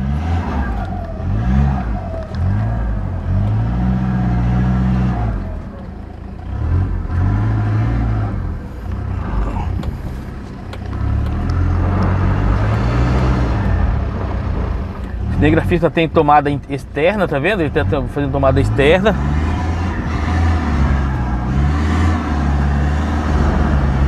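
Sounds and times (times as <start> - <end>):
pickup engine revving under load: 0.0 - 24.0.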